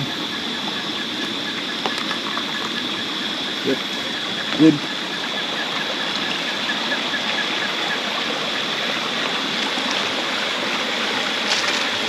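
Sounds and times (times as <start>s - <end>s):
stream running: 0.0s - 12.0s.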